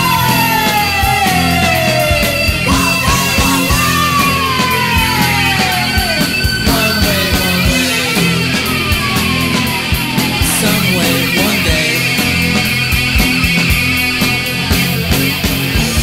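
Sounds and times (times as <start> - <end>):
bass: 0.0 - 16.0
distorted guitar sliding down: 0.0 - 16.0
steady drums: 0.0 - 16.0.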